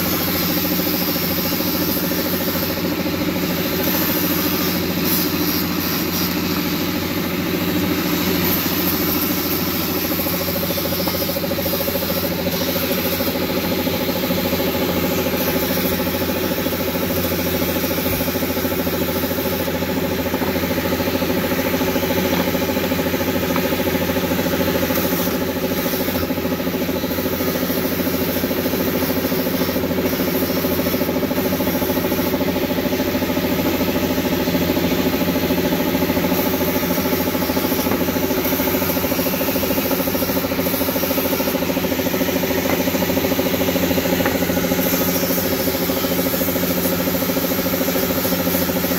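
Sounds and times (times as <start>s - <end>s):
air compressor humming: 0.0s - 48.9s
paint spray gun hissing: 0.0s - 48.9s.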